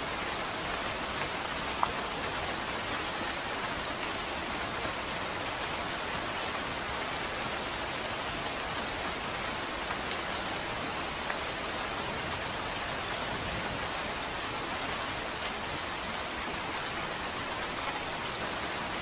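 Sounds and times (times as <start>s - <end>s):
steady rainfall: 0.0s - 19.0s.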